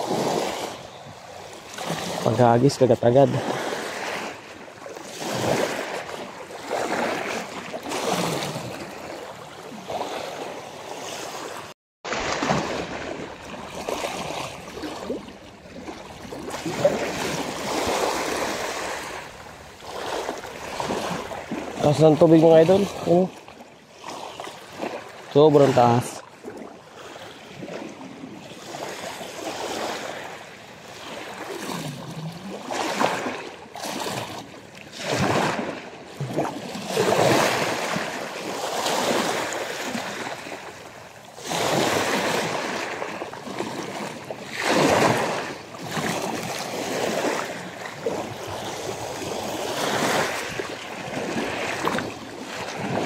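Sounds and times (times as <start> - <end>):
waves washing in: 0.0 - 53.0.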